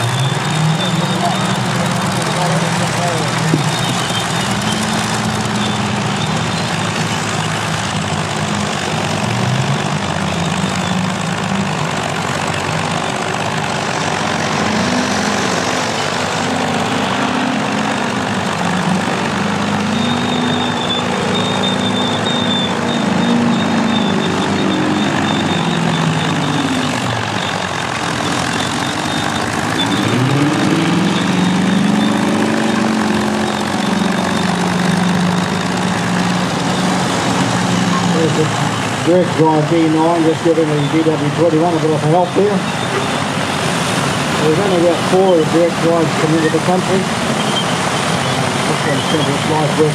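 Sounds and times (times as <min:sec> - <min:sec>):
heavy diesel engines under load: 0:00.0 - 0:49.9.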